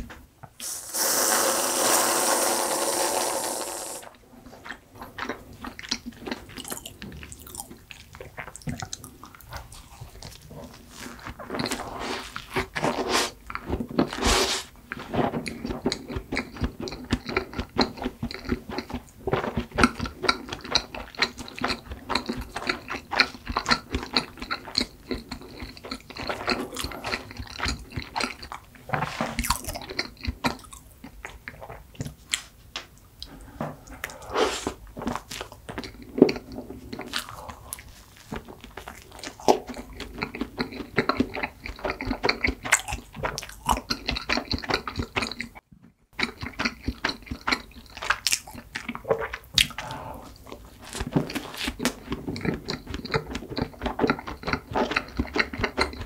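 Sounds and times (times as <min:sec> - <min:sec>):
close chewing with mouth smacks: 0:04.5 - 0:34.2, 0:34.8 - 0:56.0.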